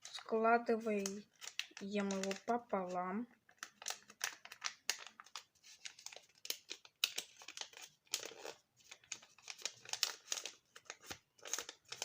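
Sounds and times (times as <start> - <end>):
paper being folded and creased: 0.0 - 12.0.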